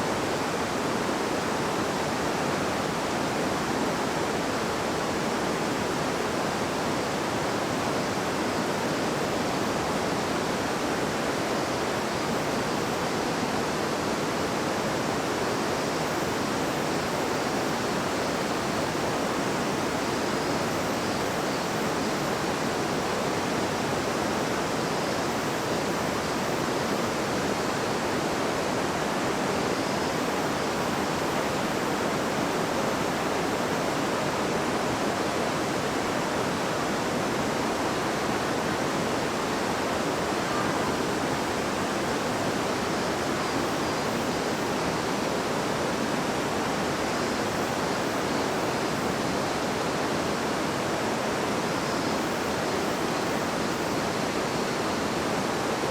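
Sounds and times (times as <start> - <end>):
babbling river: 0.0 - 55.9.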